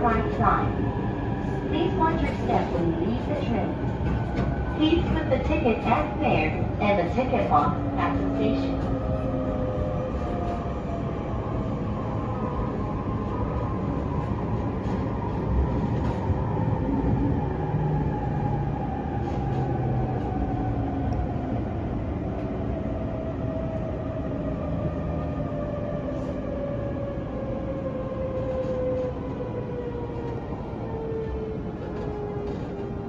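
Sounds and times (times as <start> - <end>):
wheels rumbling on rail: 0.0 - 33.0.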